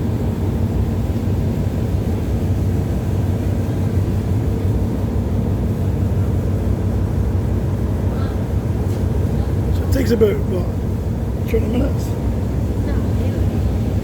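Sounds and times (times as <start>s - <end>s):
car ferry engine rumble: 0.0s - 14.0s.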